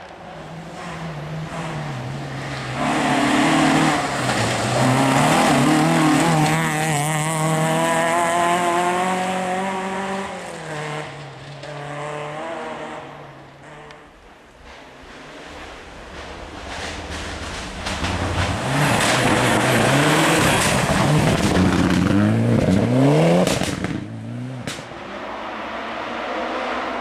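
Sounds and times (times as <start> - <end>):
rally car engine at high revs: 0.7 - 14.0, 18.1 - 27.0.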